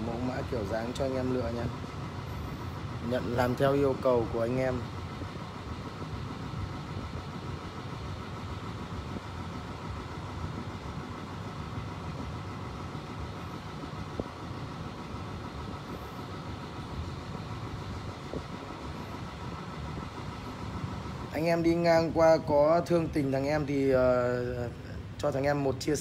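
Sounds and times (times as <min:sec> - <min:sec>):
low rumble of vehicle: 0:00.0 - 0:26.0.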